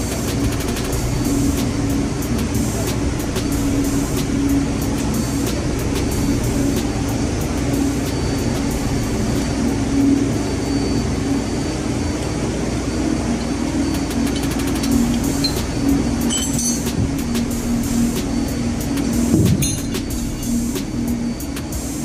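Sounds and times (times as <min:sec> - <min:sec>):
engine-room machinery drone: 0:00.0 - 0:22.0.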